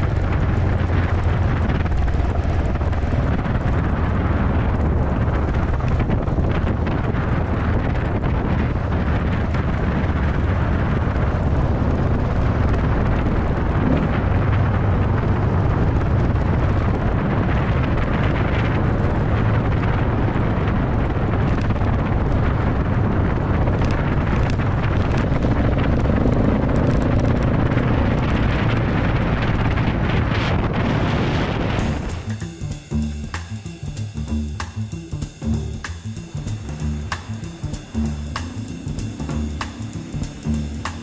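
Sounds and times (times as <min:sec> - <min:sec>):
motorcycle engine running: 0:00.0 - 0:30.4, 0:31.8 - 0:41.0
wind rush on microphone: 0:00.0 - 0:41.0.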